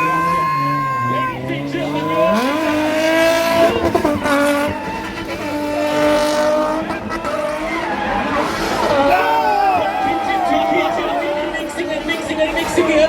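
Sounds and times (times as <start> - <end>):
car engine at high revs: 0.0 - 13.0
tyres squealing: 0.0 - 13.0.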